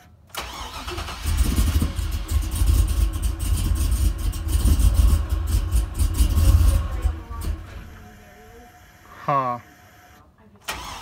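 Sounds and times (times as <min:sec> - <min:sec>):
truck engine starting: 0:00.3 - 0:09.0, 0:10.6 - 0:11.0.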